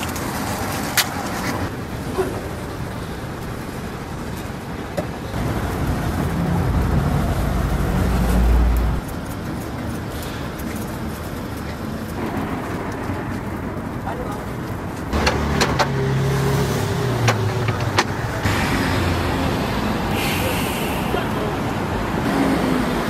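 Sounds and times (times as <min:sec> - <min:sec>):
street traffic noise: 0:00.0 - 0:23.0
low engine rumble: 0:01.6 - 0:23.0.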